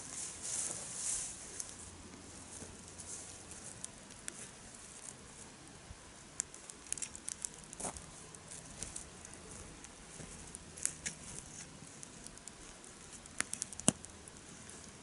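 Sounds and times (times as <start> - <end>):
wood campfire crackling: 0.0 - 15.0.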